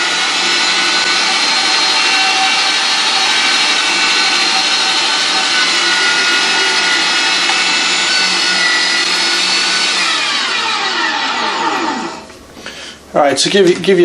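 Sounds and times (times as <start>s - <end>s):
meat grinder motor whining: 0.0s - 12.4s.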